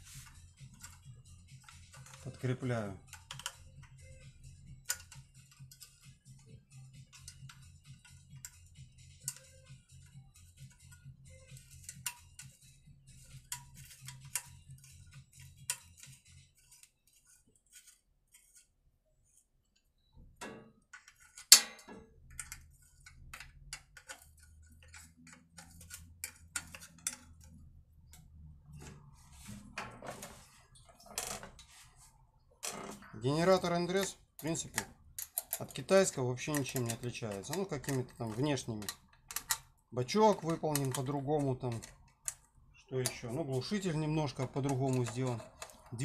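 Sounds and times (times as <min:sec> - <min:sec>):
metal tools clicking and tapping: 0:00.3 - 0:18.7, 0:19.7 - 0:29.0, 0:32.6 - 0:46.0.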